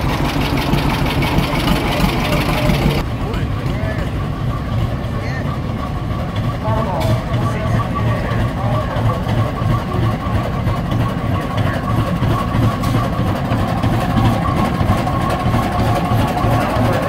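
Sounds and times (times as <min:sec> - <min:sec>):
tractor engine running slowly: 0:00.0 - 0:17.0.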